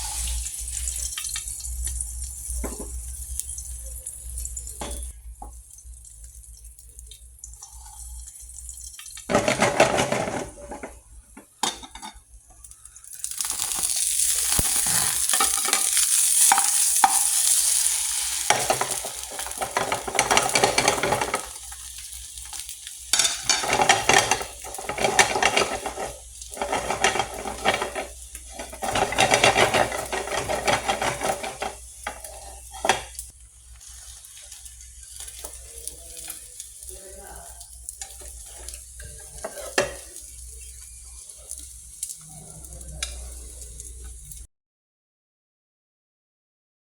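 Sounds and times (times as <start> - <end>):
utensil scraping in pan: 0.0 - 5.2, 7.6 - 44.5
eggs sizzling in hot oil: 0.0 - 44.5.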